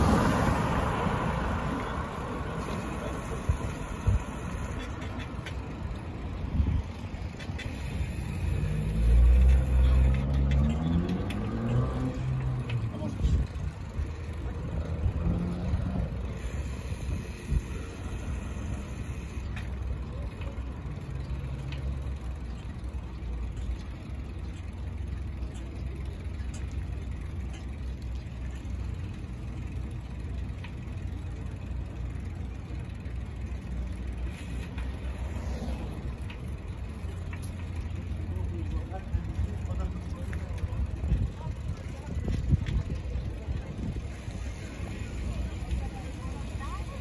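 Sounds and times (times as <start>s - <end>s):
city street traffic: 0.0s - 47.0s.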